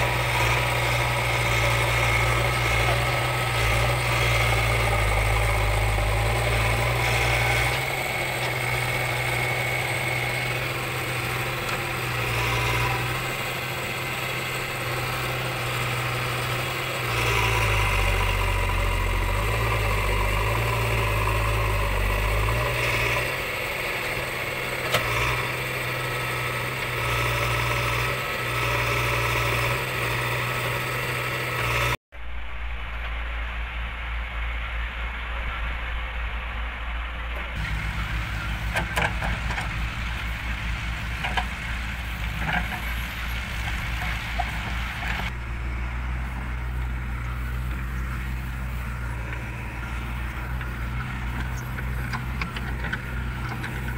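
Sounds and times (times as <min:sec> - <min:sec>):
backhoe diesel engine: 0:00.0 - 0:53.9.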